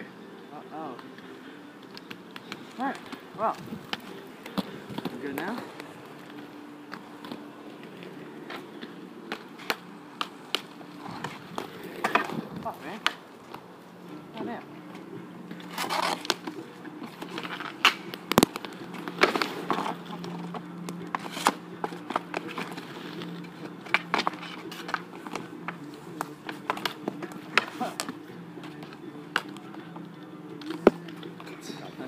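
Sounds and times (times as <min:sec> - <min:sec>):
steady low hum: 0:00.0 - 0:32.0
hockey sticks clacking: 0:00.9 - 0:13.6, 0:15.4 - 0:32.0
inline skate wheels rolling: 0:01.0 - 0:32.0.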